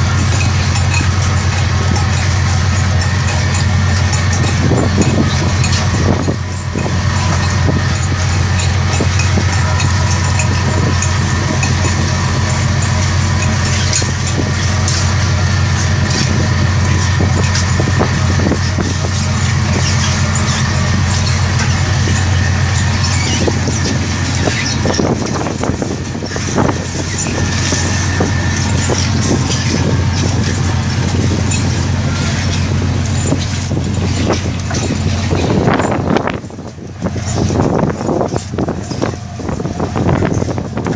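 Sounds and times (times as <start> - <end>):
boat engines and deck machinery: 0.0 - 40.9.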